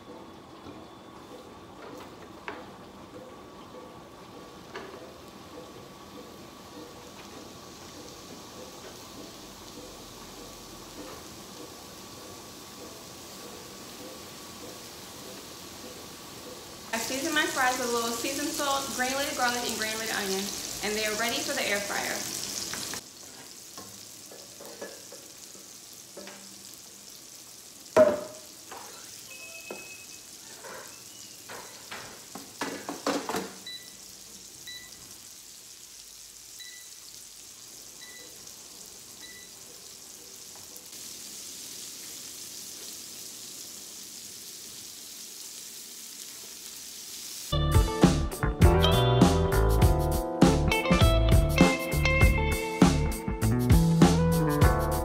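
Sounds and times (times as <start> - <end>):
burger patties sizzling on griddle: 1.3 - 55.0.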